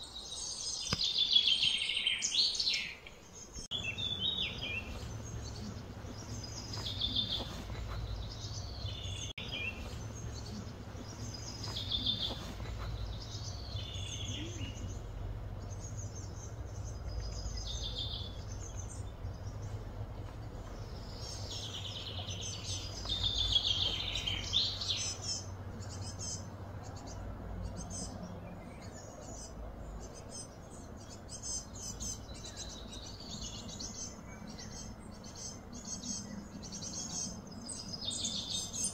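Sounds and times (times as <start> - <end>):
birds chirping: 0.0 - 38.9
low outdoor hum: 0.0 - 38.9.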